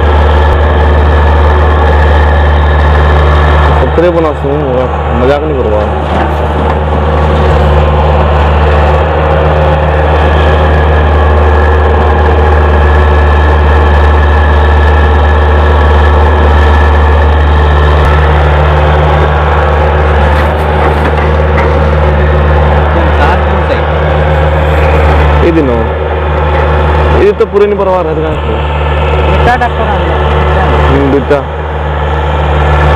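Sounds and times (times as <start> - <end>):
diesel engines droning: 0.0 - 32.9.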